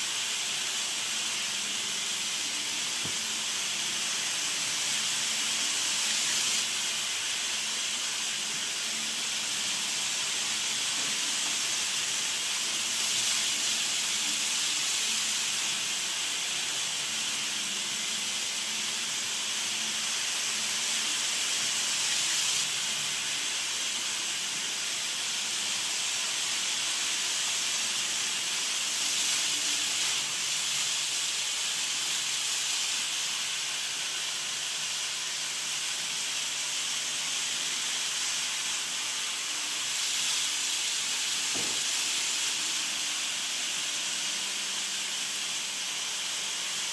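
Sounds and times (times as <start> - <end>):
model train wheels and motors hissing: 0.0 - 46.9.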